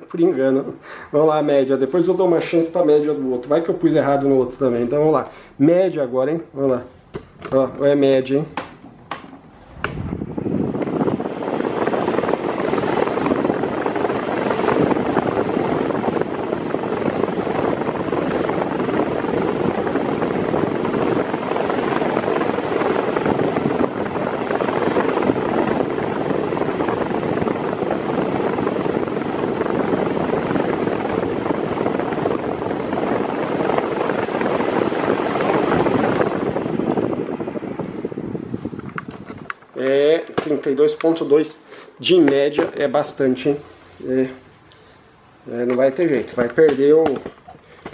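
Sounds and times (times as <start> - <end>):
floor fan running: 0.0 - 47.9.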